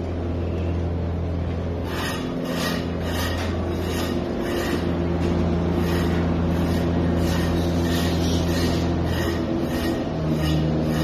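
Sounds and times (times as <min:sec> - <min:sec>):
construction machinery hum: 0:00.0 - 0:11.0.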